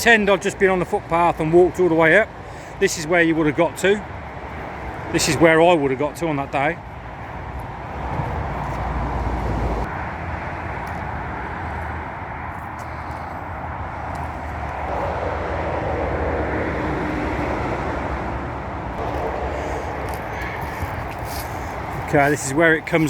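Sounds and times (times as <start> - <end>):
motorway traffic noise: 0.0 - 23.0.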